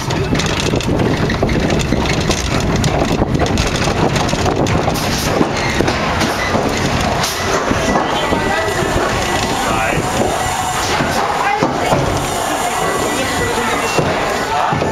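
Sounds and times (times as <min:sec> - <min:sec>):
wind on microphone: 0:00.0 - 0:14.1
clatter of wheels and cars: 0:00.0 - 0:14.9
roller coaster rumbling on track: 0:00.0 - 0:14.9.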